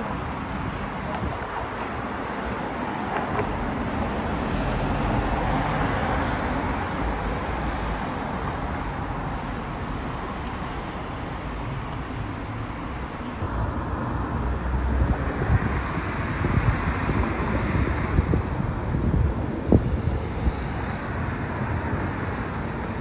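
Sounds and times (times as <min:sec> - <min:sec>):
cars passing on street: 0:00.0 - 0:23.0.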